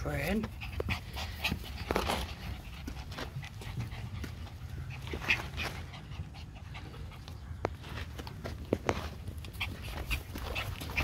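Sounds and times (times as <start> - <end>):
puppies panting: 0.0 - 11.0.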